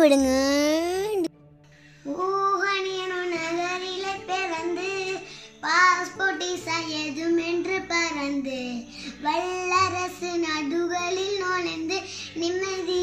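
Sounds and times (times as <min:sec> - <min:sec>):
girl singing: 0:00.0 - 0:01.3, 0:02.1 - 0:13.0.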